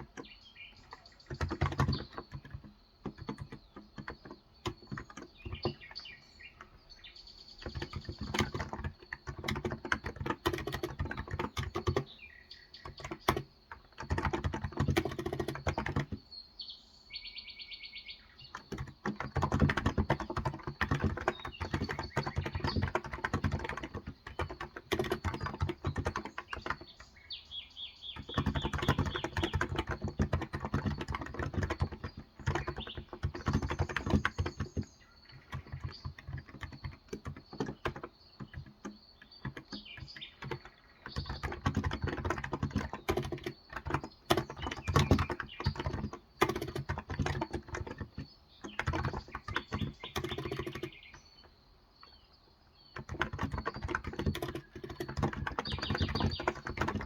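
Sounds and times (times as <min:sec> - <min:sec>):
typing on a keyboard: 0:00.0 - 0:16.4, 0:18.2 - 0:27.3, 0:28.0 - 0:52.2, 0:52.9 - 0:57.0
birds chirping: 0:00.0 - 0:57.0.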